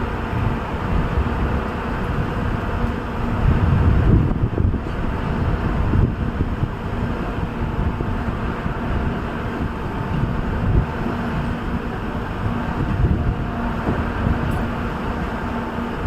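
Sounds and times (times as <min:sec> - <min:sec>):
moving train rumbling: 0:00.0 - 0:16.0
wind buffeting microphone: 0:00.0 - 0:16.0.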